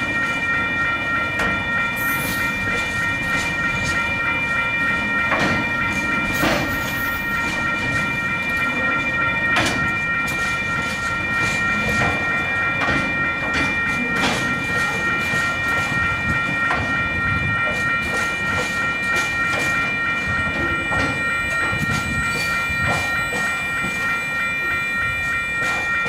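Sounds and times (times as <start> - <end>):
crossing warning bell ringing: 0.0 - 26.0.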